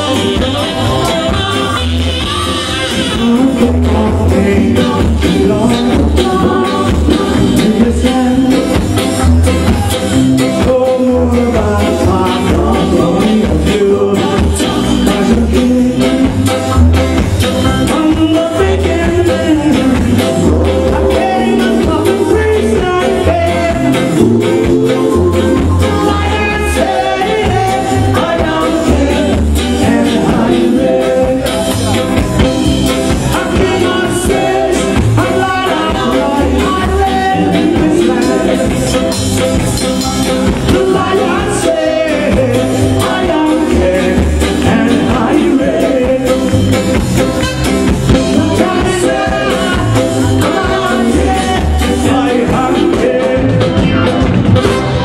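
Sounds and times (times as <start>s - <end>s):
person singing: 0.0s - 47.4s, 48.1s - 54.5s
live reggae band playing: 0.0s - 55.0s.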